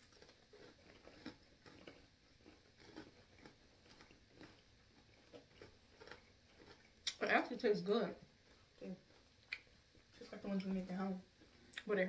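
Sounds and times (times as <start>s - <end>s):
chewing crunchy pretzel: 0.0s - 11.9s.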